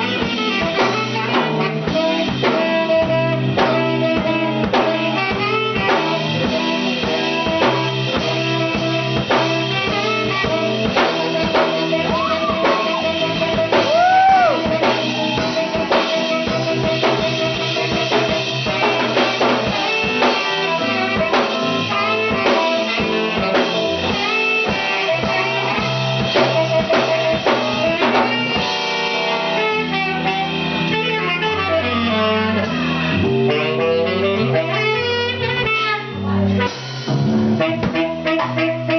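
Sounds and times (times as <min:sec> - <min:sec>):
instrumental blues jazz band: 0:00.0 - 0:38.9.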